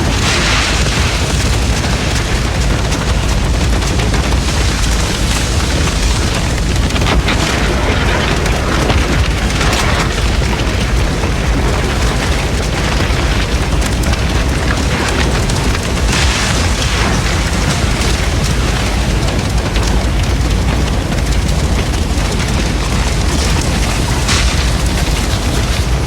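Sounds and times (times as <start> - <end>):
building fire burning and crackling: 0.0 - 26.0.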